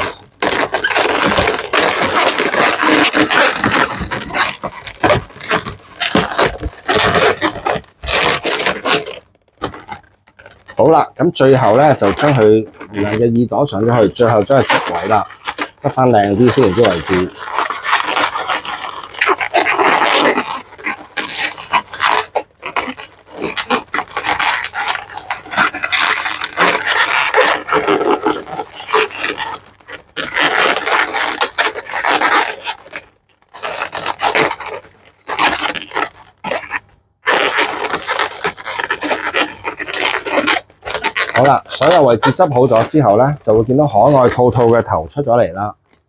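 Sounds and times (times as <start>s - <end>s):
balloons rubbing and scraping: 0.0s - 46.0s.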